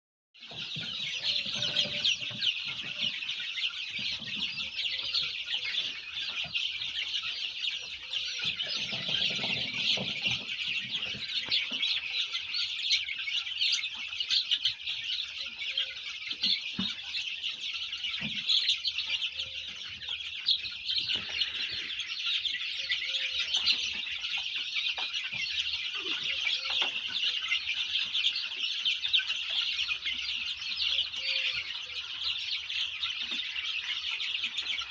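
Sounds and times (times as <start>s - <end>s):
chicks peeping: 0.4s - 34.9s.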